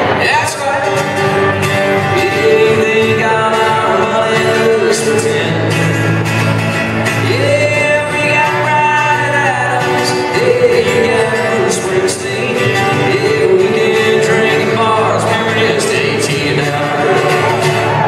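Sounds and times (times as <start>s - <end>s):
man singing: 0.0s - 6.2s, 7.0s - 18.0s
acoustic guitars: 0.0s - 18.0s.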